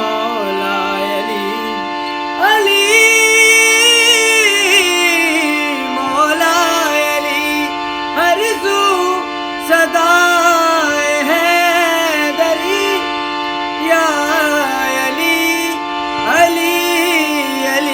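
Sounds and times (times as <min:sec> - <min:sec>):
held drone: 0:00.0 - 0:17.9.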